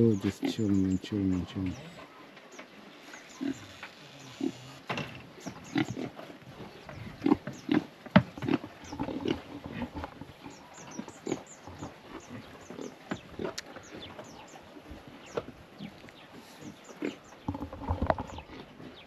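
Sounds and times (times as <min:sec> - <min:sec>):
pigs grunting: 0:00.0 - 0:02.2, 0:03.1 - 0:14.6, 0:16.4 - 0:19.0.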